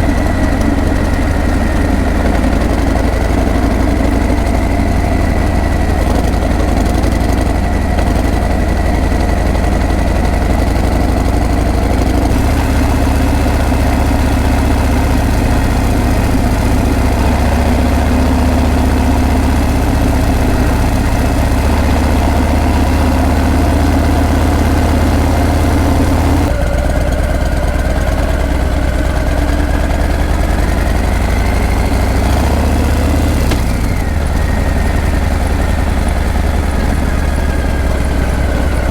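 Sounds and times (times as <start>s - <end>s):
motorcycle exhaust rumbling: 0.0s - 38.9s.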